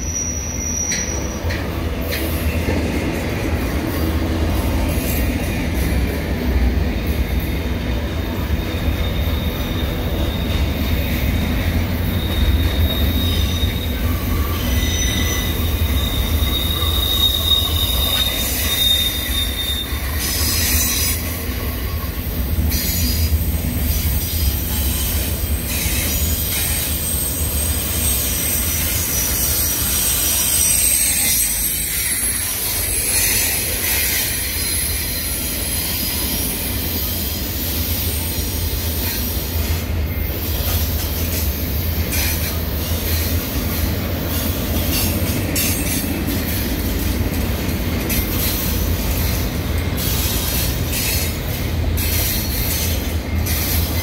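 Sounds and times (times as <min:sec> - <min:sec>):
high wheel squeal: 0:00.0 - 0:05.5, 0:08.3 - 0:47.3
train wheels rumbling on rails: 0:00.0 - 0:54.0.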